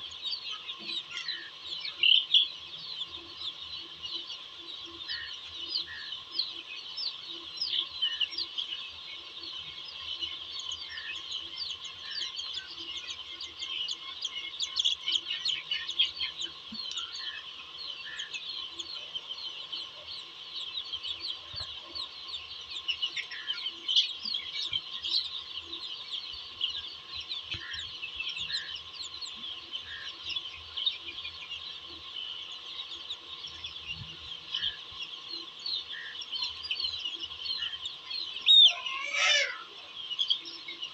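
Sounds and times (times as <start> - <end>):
chickens clucking: 0.0 - 40.9
chicks peeping: 0.0 - 40.9.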